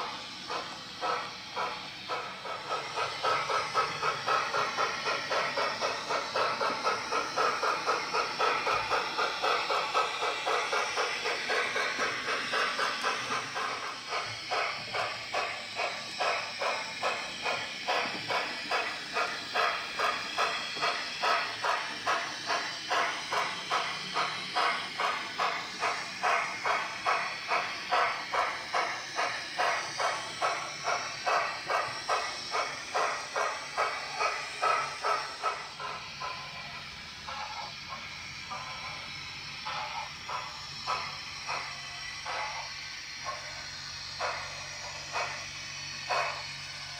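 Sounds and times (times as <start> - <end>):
steam hiss: 0.0 - 46.9
steam locomotive chuffs: 0.0 - 46.9.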